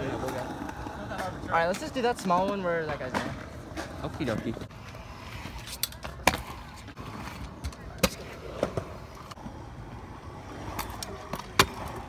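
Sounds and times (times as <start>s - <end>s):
scooter wheels rolling: 0.0s - 12.0s.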